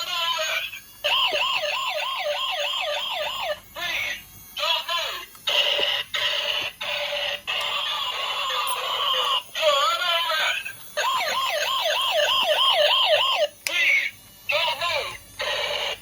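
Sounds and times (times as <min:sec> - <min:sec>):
toy electronic siren: 0:00.0 - 0:16.0.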